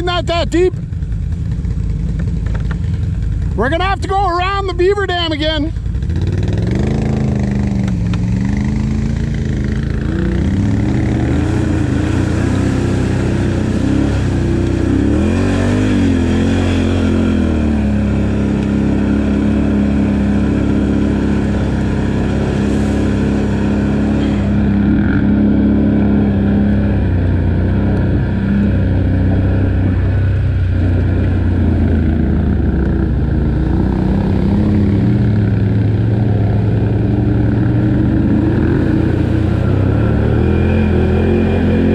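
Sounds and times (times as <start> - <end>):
quad bike engine revving: 0.0 - 41.9.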